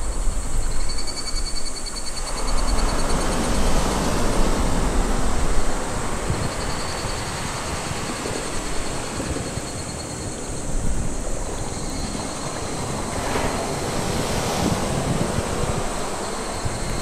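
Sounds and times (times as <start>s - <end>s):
wind buffeting microphone: 0.0s - 17.0s
sea surf: 1.9s - 17.0s.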